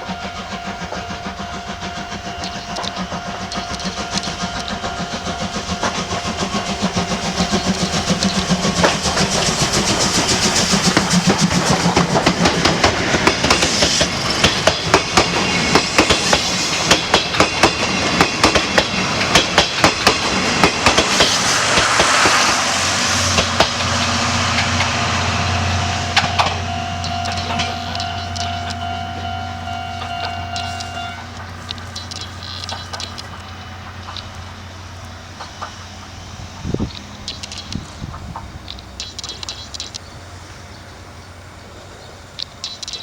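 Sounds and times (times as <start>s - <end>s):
train wheels clicking on rail joints: 0.0s - 43.0s.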